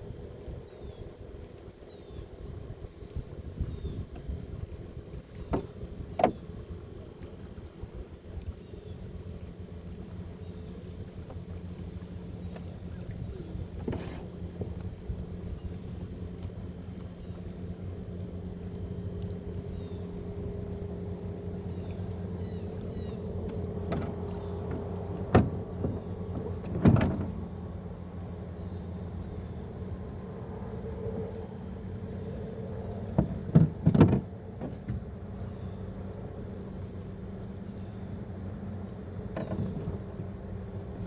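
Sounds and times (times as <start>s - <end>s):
electric trolling motor hum: 0.0s - 41.0s.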